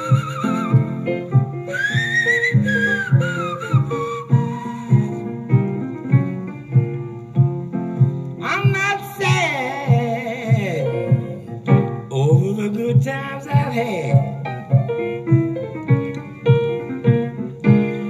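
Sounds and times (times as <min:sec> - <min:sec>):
blues piano: 0:00.0 - 0:18.0.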